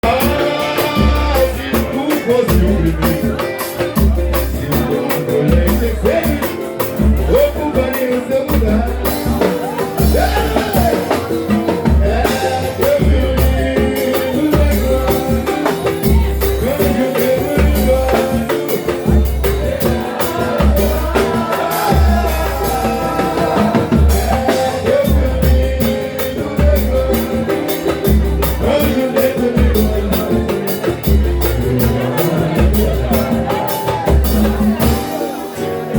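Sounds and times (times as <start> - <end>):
drums and bass beat: 0.0 - 35.9
person singing: 0.0 - 35.9.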